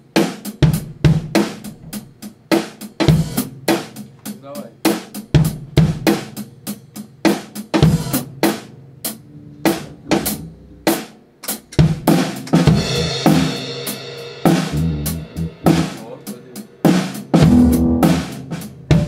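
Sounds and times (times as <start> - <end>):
drum kit groove: 0.0 - 19.0.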